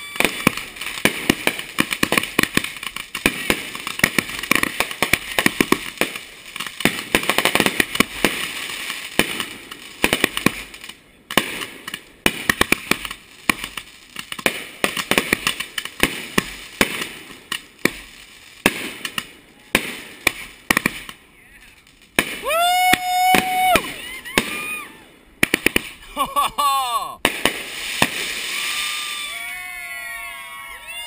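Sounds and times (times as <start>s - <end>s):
fireworks crackle: 0.0s - 26.6s, 27.2s - 31.0s
fireworks popping and bursting: 0.0s - 26.6s, 27.2s - 29.5s.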